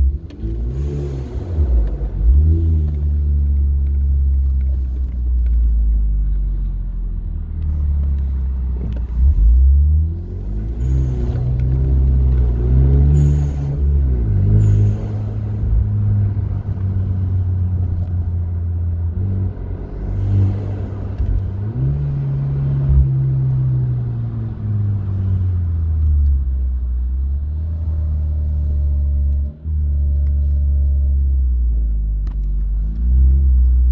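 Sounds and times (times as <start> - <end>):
car engine revving: 0.0 - 5.6, 6.3 - 33.9.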